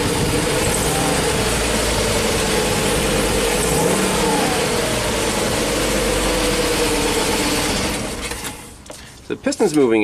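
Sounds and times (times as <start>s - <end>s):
engine running rough and misfiring: 0.0s - 8.8s.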